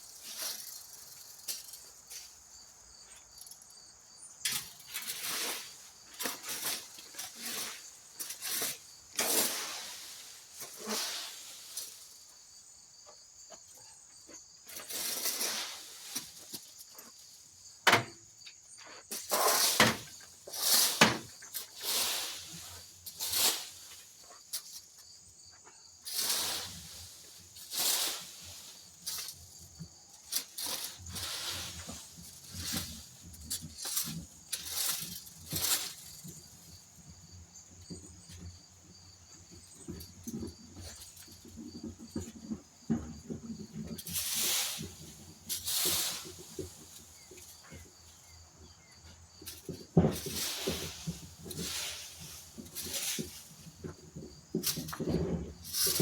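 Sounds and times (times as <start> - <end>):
rake scraping dry leaves: 0.0 - 3.4, 4.4 - 12.8, 14.7 - 17.6, 18.9 - 25.0, 26.0 - 37.3, 43.0 - 56.0.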